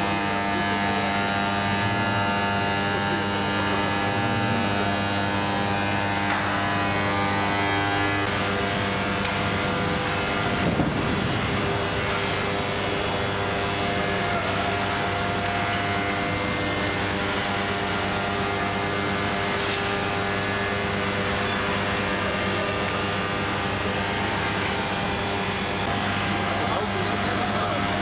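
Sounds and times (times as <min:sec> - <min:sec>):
industrial machinery drone: 0:00.0 - 0:28.0.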